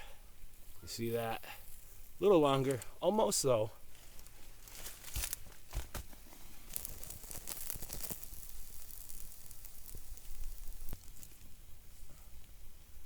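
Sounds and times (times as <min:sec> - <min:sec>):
steak sizzling on coals: 0:00.4 - 0:13.0.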